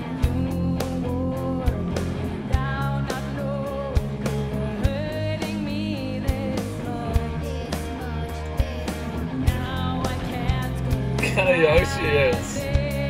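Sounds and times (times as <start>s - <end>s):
woman singing: 0.0s - 8.4s, 9.4s - 13.0s
electric guitars: 0.0s - 13.0s.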